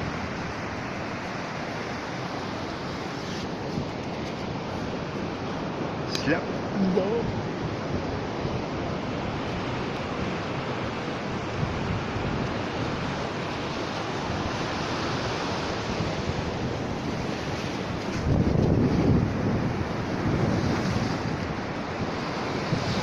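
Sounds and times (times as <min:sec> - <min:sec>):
sea surf washing onto shore: 0:00.0 - 0:23.0
wind rumbling on microphone: 0:00.0 - 0:23.0.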